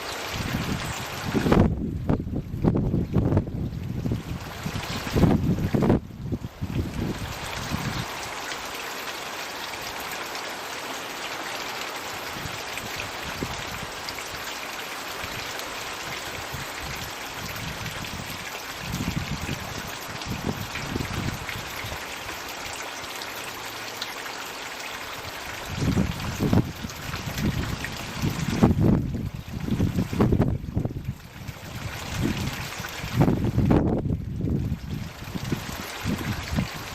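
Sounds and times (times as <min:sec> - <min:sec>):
trickle and splash of falling water: 0:00.0 - 0:36.9.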